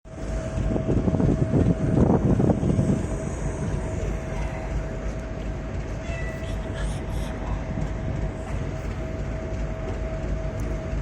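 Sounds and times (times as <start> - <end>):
electric train low rumble and whine: 0.1 - 11.0
train wheels clattering: 0.1 - 11.0.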